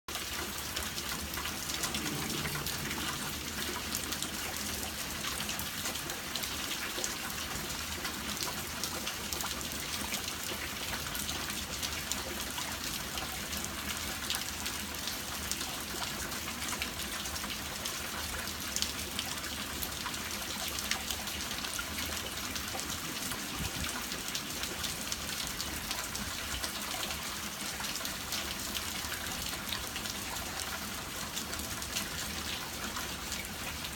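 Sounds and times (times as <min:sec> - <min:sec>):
raindrops pattering on surfaces: 0:00.1 - 0:33.9
steady rainfall: 0:00.1 - 0:33.9.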